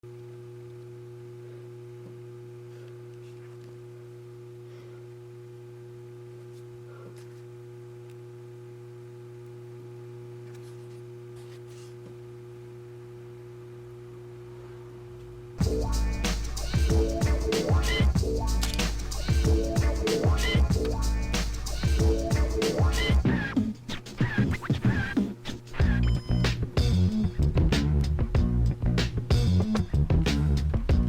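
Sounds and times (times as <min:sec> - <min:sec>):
hard drives humming: 0:00.1 - 0:31.0.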